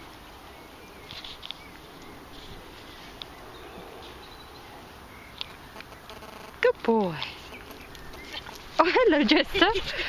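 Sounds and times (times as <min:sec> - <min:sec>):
faint outdoor background noise: 0:00.0 - 0:10.0.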